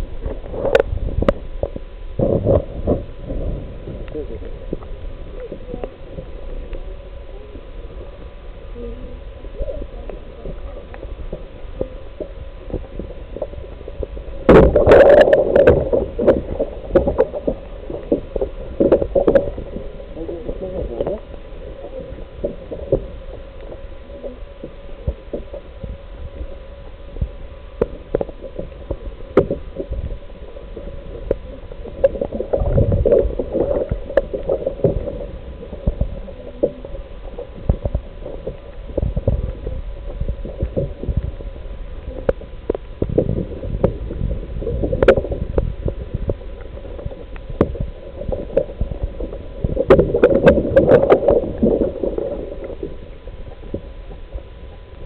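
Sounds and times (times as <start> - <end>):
muffled water sloshing and gurgling: 0.0 - 55.0
steady hum: 0.0 - 55.0.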